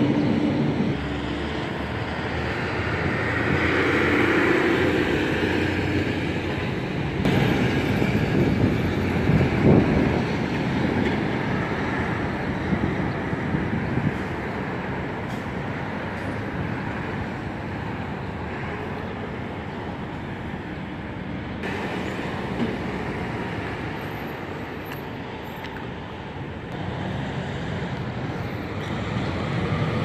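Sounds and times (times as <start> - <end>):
heavy road traffic: 0.0 - 30.0
semi truck passing: 0.0 - 30.0
truck passing: 0.0 - 30.0.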